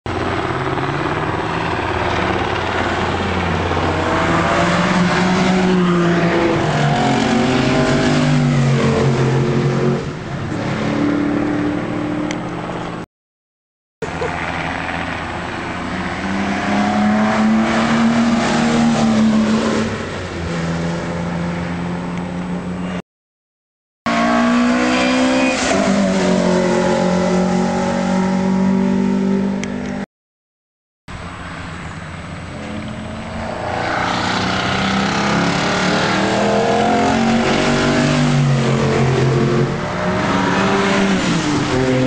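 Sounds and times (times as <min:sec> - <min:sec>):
racing car engines revving: 0:00.1 - 0:13.0, 0:14.0 - 0:23.0, 0:24.1 - 0:30.0, 0:31.4 - 0:42.0.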